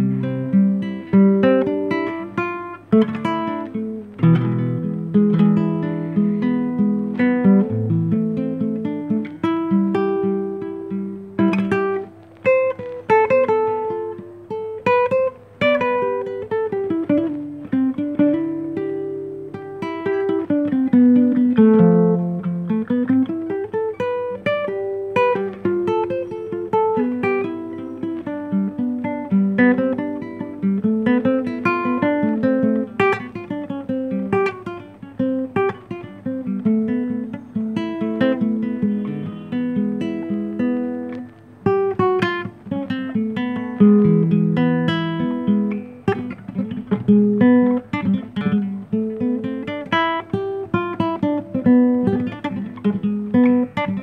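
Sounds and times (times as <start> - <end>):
fingerpicked classical guitar: 0.0 - 54.0.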